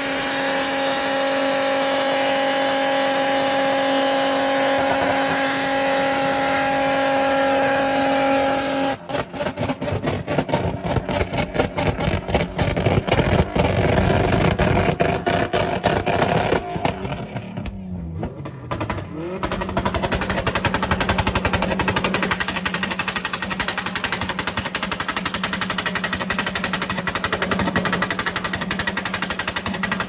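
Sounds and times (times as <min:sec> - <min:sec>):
car engine at high revs: 0:00.0 - 0:30.0
exhaust pops and bangs: 0:03.8 - 0:30.0.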